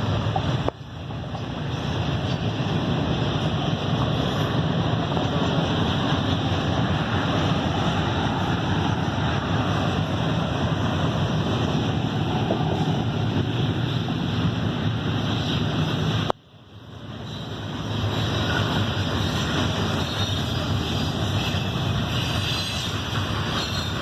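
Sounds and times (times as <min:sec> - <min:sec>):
moving vehicle rumble: 0:00.0 - 0:24.0.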